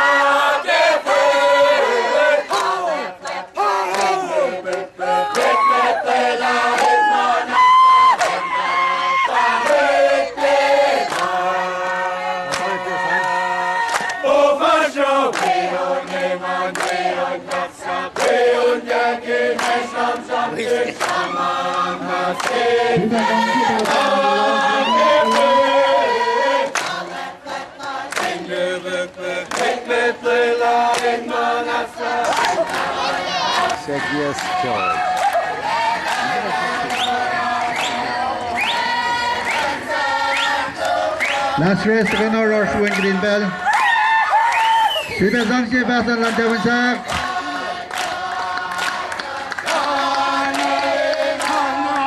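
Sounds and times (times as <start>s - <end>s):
crowd singing in chorus: 0.0s - 43.8s, 45.0s - 52.0s.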